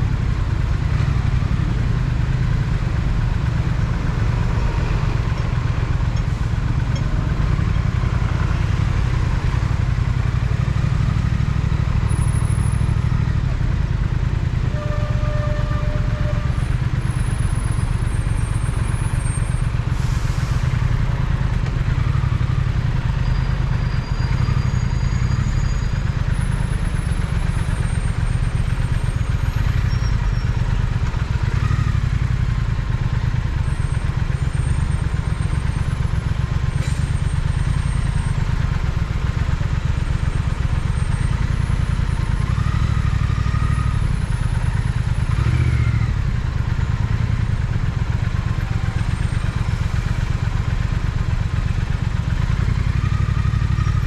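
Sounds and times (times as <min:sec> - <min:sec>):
motorcycle engine running: 0:00.0 - 0:19.9, 0:20.9 - 0:54.0.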